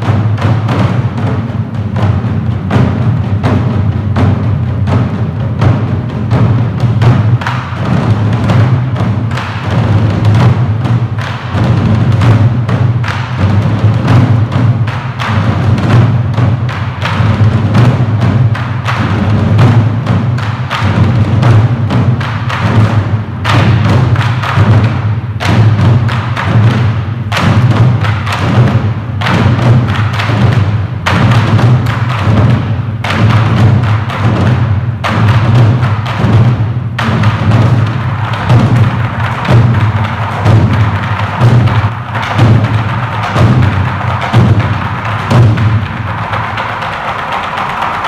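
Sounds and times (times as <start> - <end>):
drums beaten with sticks: 0.0 - 48.0.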